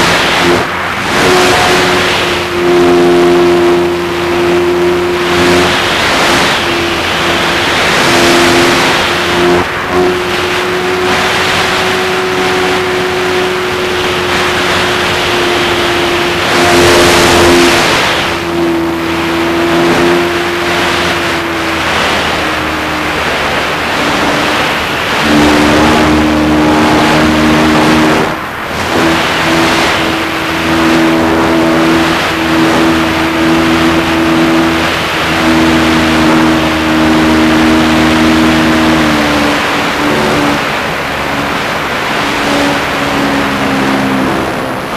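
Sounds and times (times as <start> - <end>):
model plane motor whining: 0.0 - 44.9
wind rush on microphone: 0.0 - 44.9.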